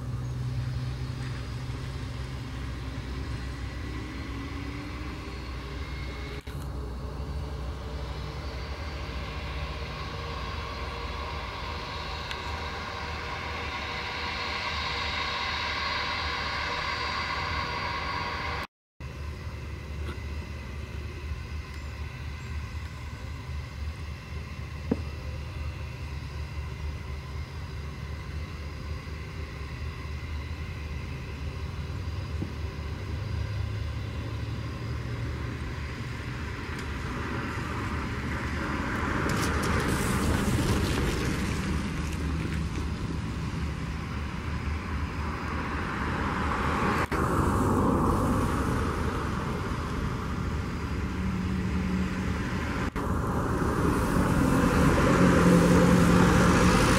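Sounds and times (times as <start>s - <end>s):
jet engines rumbling and whining: 0.0s - 56.9s.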